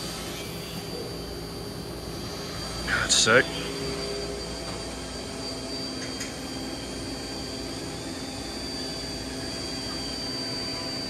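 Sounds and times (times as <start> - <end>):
high-pitched whine: 0.0 - 11.0
machine whirring hum: 0.0 - 11.0.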